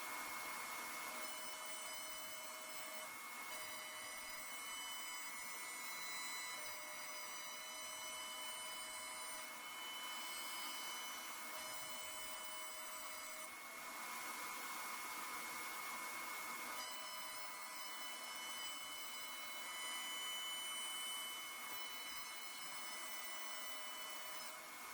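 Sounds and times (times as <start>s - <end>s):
cnc router mechanical hiss: 0.0s - 24.9s
high-pitched motor whines: 0.0s - 24.9s.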